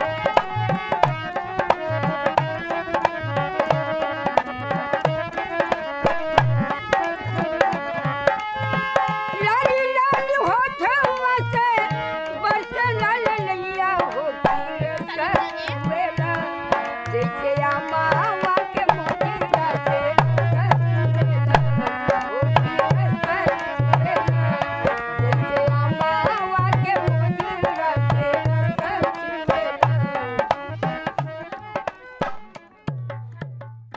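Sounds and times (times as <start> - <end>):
harmonium playing folk tune: 0.0 - 33.9
hand drum beat: 5.1 - 11.9, 12.9 - 33.9.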